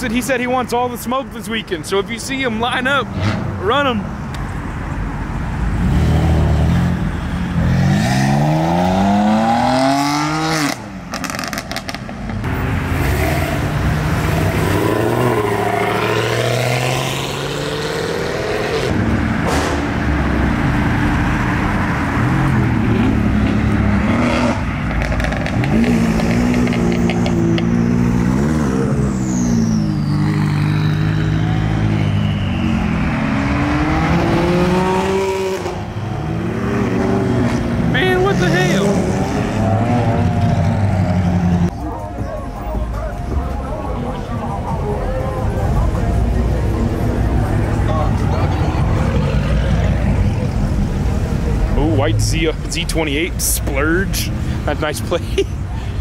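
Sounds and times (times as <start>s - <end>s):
sports car engines revving: 2.1s - 56.0s.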